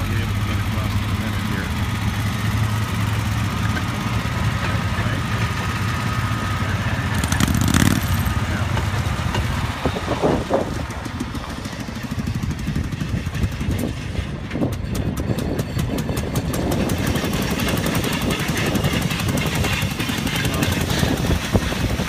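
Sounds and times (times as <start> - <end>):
small gasoline engine puttering: 0.0 - 22.0.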